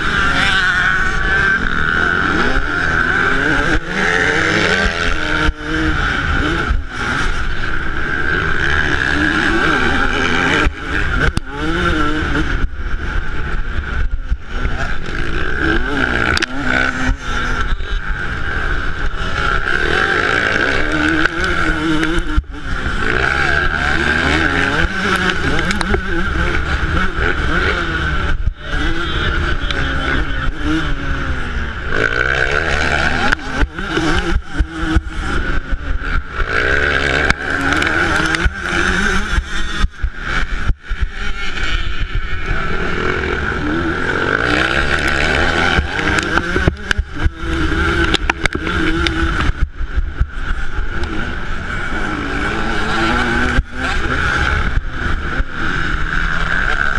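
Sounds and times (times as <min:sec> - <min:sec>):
low wind rumble: 0:00.0 - 0:56.9
two-stroke motorcycle engine revving: 0:00.0 - 0:56.9.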